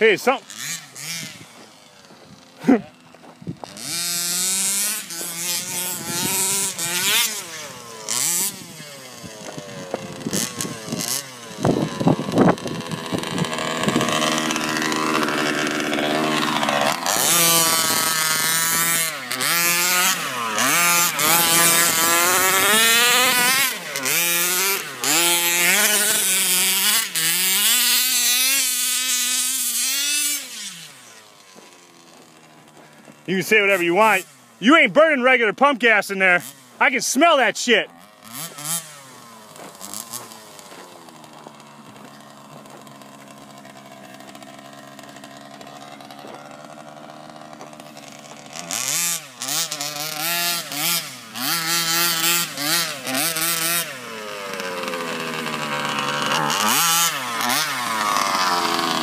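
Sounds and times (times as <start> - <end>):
rc buggy engines revving: 0.0 - 59.0.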